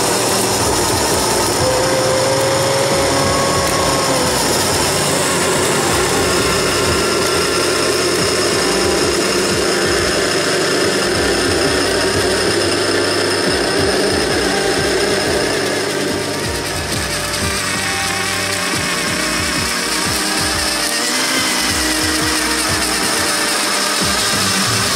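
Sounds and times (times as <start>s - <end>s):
small snowblower motor churning snow: 0.0s - 24.9s.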